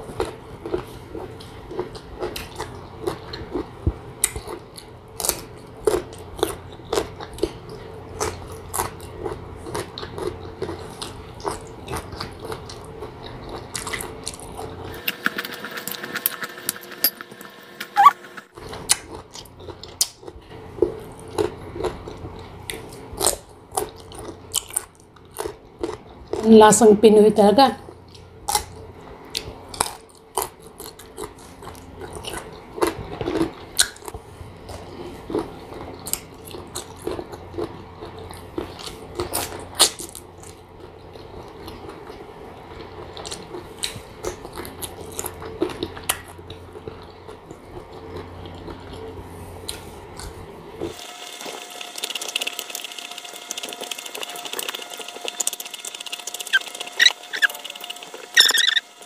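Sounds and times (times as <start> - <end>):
crunching and chewing mango: 0.0 - 26.6, 27.8 - 59.0
low background hum: 0.0 - 59.0.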